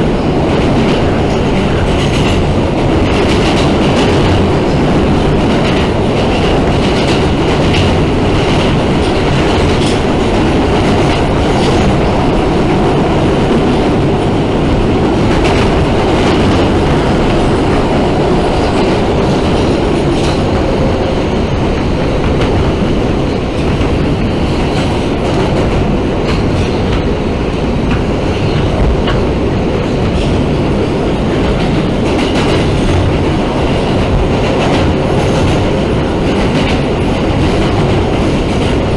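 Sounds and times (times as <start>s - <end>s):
subway train rumbling: 0.0s - 38.9s
wheels clickety-clack: 0.0s - 38.9s.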